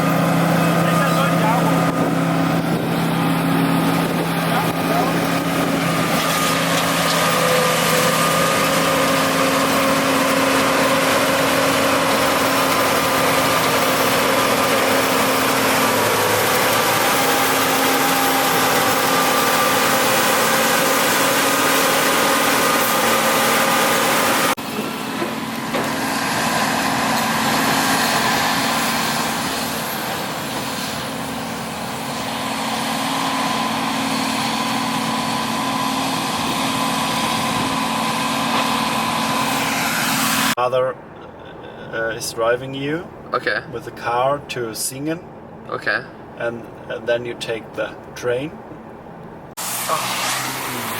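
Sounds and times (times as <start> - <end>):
vehicle engine running: 0.0 - 42.2.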